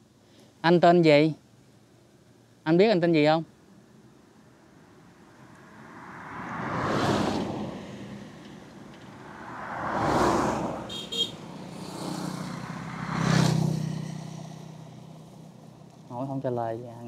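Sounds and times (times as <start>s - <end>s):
vehicles passing on road: 1.5s - 17.0s.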